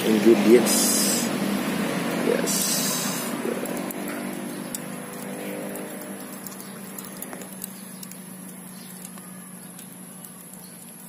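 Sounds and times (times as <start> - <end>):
steady low hum: 0.0 - 9.2
fire crackling and popping: 0.0 - 11.0.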